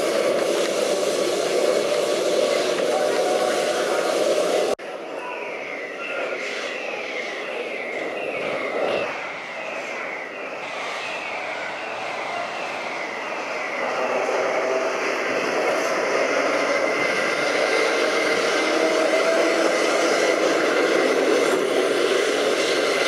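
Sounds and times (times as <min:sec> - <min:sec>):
tram running on rails: 0:00.0 - 0:23.0.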